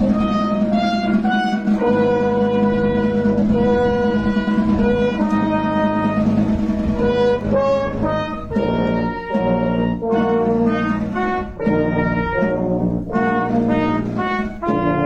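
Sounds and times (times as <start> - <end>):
wind band playing melody: 0.0 - 15.0.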